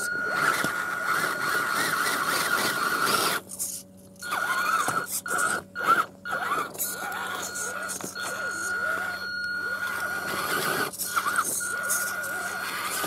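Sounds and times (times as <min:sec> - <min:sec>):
electric motor whine: 0:00.0 - 0:13.0
gear noise: 0:00.0 - 0:13.0.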